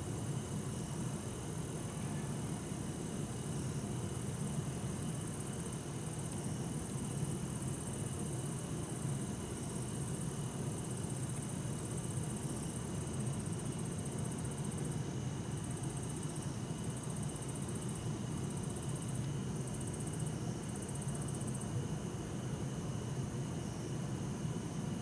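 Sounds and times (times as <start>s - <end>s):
crickets chirping: 0.0s - 25.0s
insects trilling: 0.0s - 25.0s.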